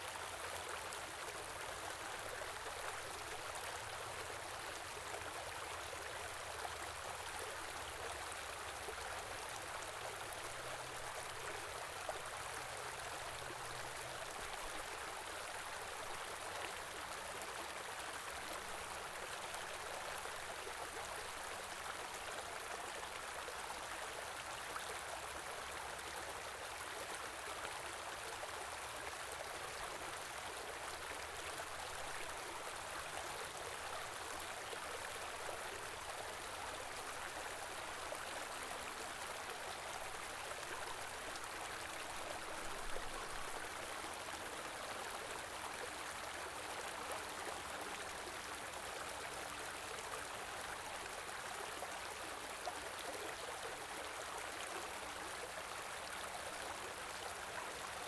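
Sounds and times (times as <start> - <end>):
small river flowing: 0.0 - 58.0.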